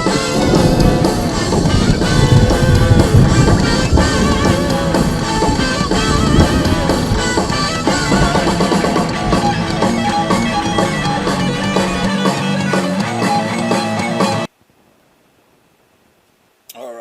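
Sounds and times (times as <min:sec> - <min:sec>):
rock music with guitar and drums: 0:00.0 - 0:14.5.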